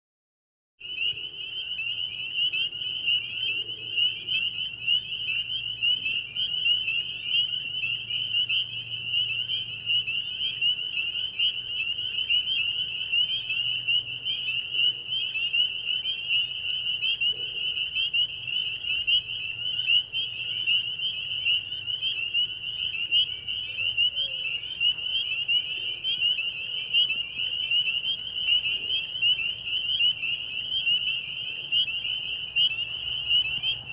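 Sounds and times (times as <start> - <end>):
crickets chirping: 0.9 - 33.9.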